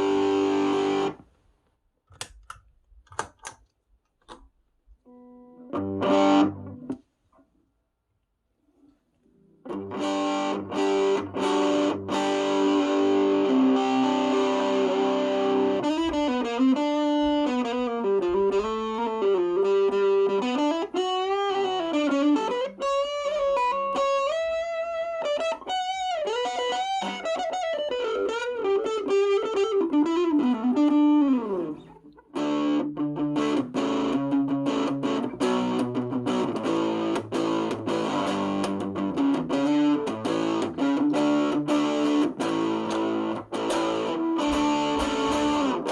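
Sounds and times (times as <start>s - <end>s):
distorted electric guitar: 0.0s - 1.3s, 5.1s - 7.0s, 9.6s - 45.9s.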